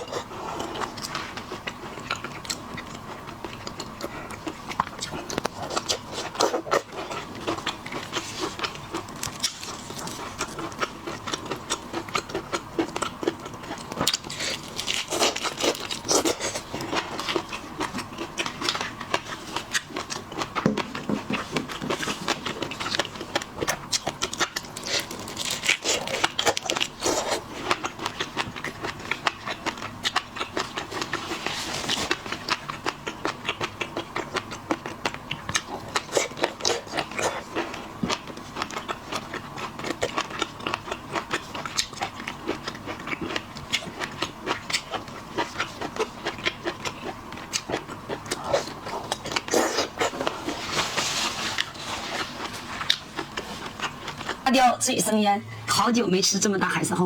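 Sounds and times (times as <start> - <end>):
close chewing and biting: 0.0 - 54.5.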